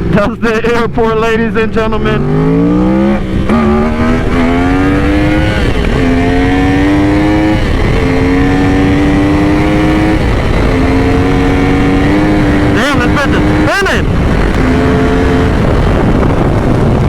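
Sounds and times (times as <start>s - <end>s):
sport bike engine accelerating: 0.0s - 17.0s
wind rumble on microphone: 0.0s - 17.0s.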